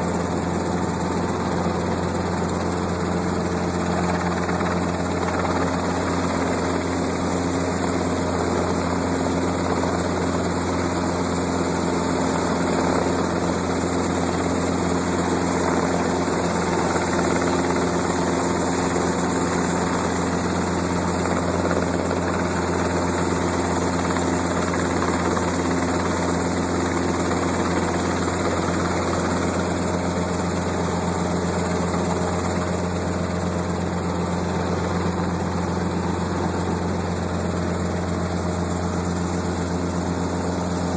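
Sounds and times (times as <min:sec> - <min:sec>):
helicopter engine and rotors: 0:00.0 - 0:40.9.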